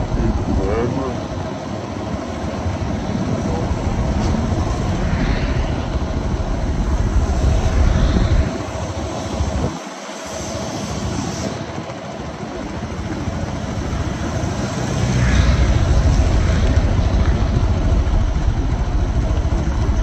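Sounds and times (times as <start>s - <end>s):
road and traffic noise: 0.0s - 11.7s, 12.6s - 20.0s
wind rumble on microphone: 0.0s - 20.0s.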